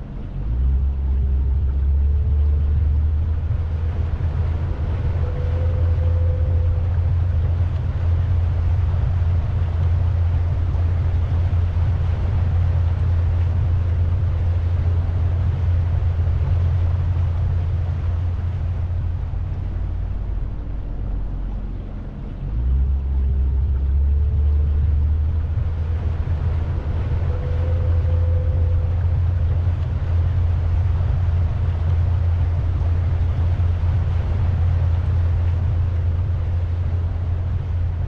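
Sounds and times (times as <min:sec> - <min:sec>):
boat engine rumble: 0:00.0 - 0:38.0
wind: 0:00.0 - 0:38.0.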